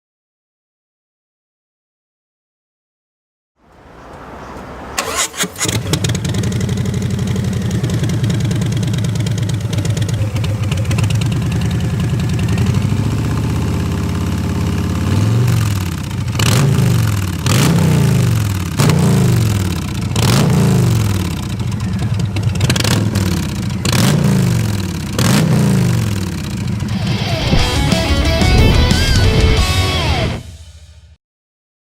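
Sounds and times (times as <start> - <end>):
motorcycle engine revving: 3.9 - 31.2.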